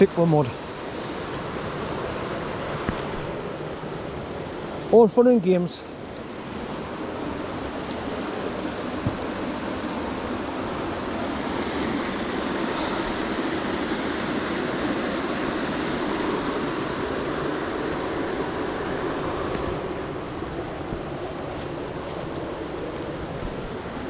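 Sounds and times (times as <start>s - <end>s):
fast-flowing water rushing: 0.0s - 24.0s.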